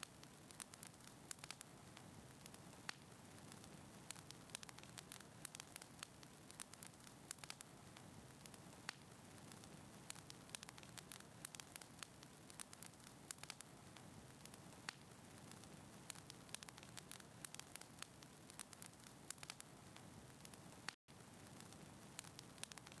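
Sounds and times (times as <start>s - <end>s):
crackling fireplace: 0.0s - 23.0s.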